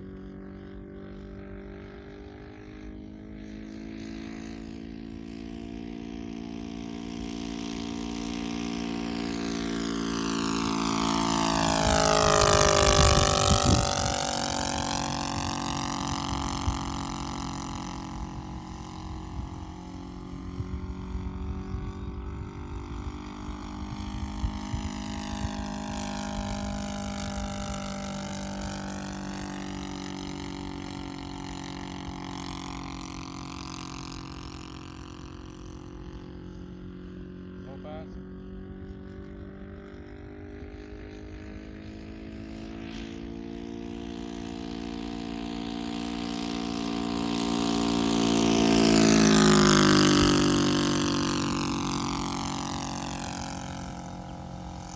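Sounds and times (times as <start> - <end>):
model plane engine passing: 0.0 - 54.9.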